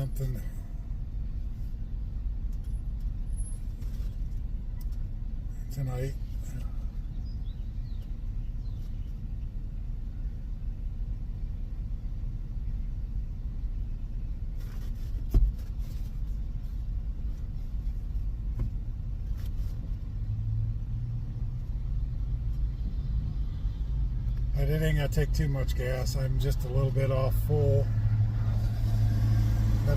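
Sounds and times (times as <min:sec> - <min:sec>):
car rumble: 0:00.0 - 0:29.9.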